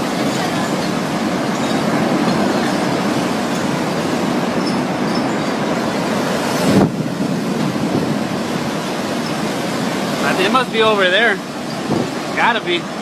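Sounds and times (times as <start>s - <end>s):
tornado roar: 0.0s - 12.8s.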